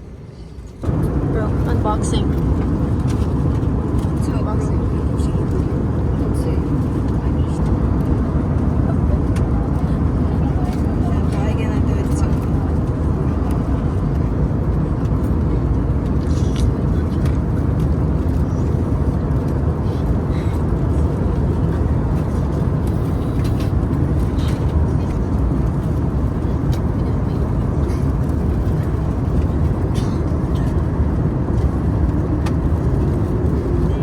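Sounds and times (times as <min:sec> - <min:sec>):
airliner cabin rumble: 0:00.0 - 0:34.0
faint voices: 0:00.3 - 0:34.0.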